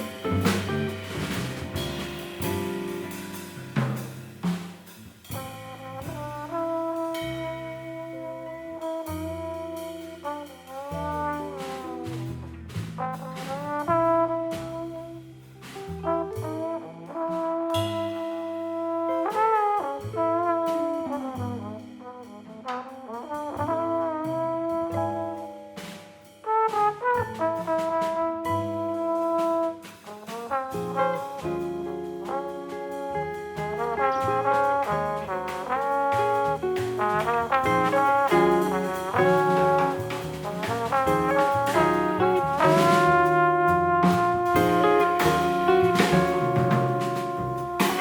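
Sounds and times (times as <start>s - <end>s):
trombone melody: 0.0s - 4.3s, 5.3s - 48.0s
bass: 0.0s - 48.0s
drums: 0.0s - 48.0s.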